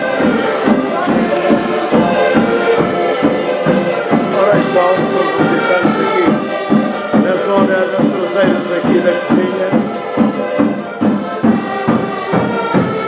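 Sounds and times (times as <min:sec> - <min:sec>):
steady drum beat: 0:00.0 - 0:13.0
street band playing: 0:00.0 - 0:13.0.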